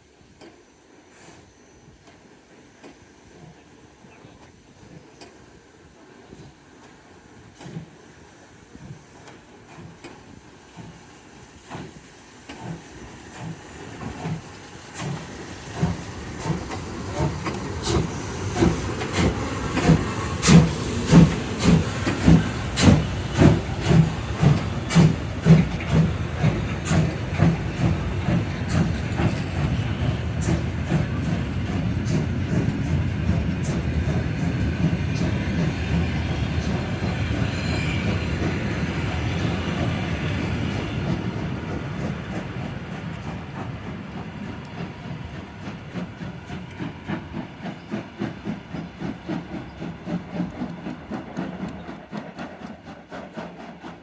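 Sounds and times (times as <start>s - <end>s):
steam locomotive chuffing: 0.1s - 54.0s
steam hissing: 0.9s - 54.0s.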